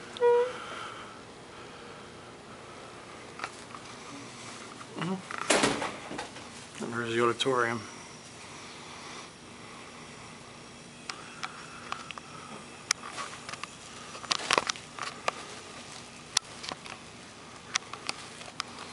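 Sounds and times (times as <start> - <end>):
faint steady hum: 0.0 - 18.9.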